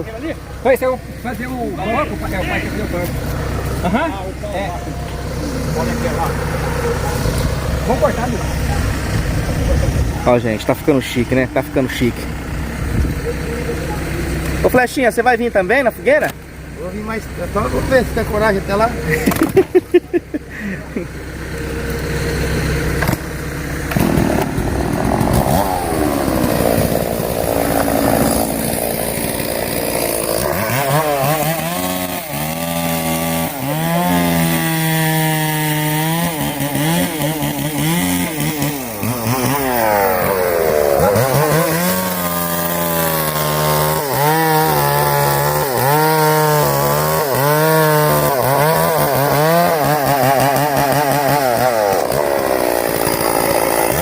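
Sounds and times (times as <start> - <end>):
chainsaw cutting wood: 0.0 - 14.9, 19.1 - 54.0.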